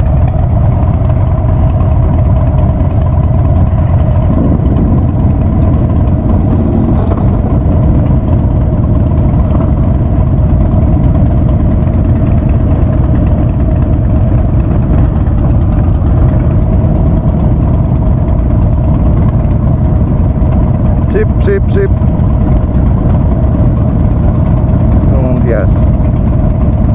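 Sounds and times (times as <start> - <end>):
motorcycle engine rumbling: 0.0 - 26.9.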